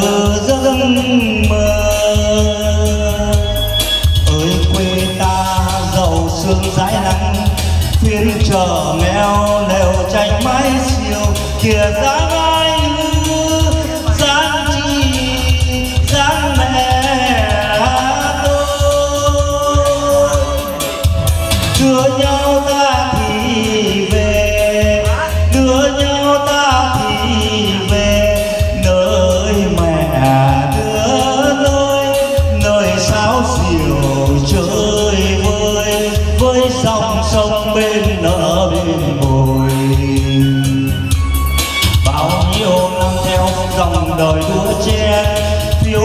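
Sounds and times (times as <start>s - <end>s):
karaoke backing music: 0.0s - 46.0s.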